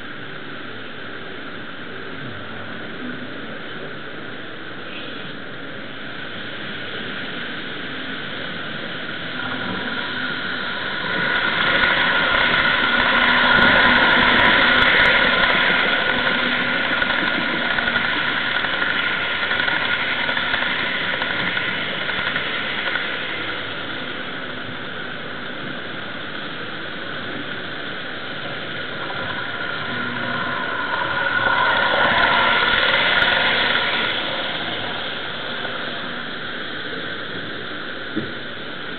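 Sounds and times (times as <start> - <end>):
model trains whirring on rails: 0.0 - 38.9.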